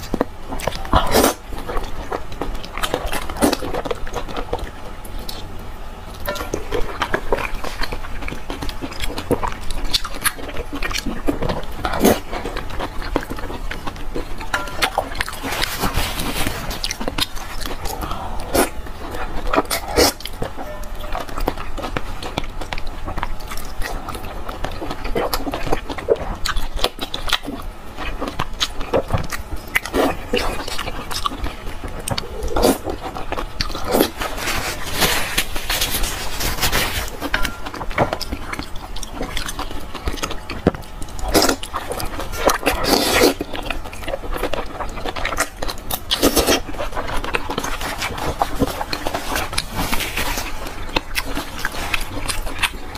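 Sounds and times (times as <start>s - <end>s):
biting and chewing food: 0.0s - 52.9s.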